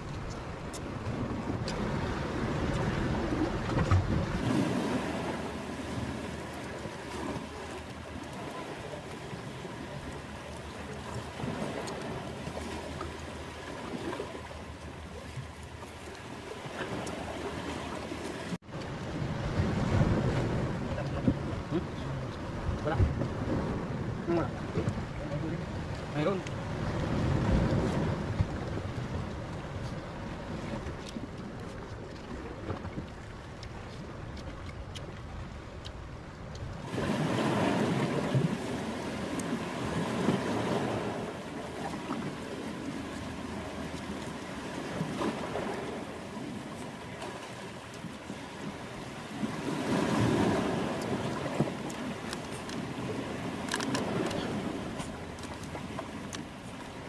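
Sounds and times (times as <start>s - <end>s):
waves washing: 0.0s - 57.0s
wind on microphone: 0.0s - 57.0s.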